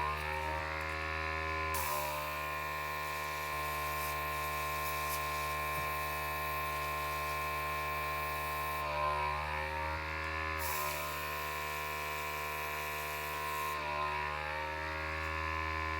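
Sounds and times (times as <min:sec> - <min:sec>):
electric blower motor whining hum: 0:00.0 - 0:15.9.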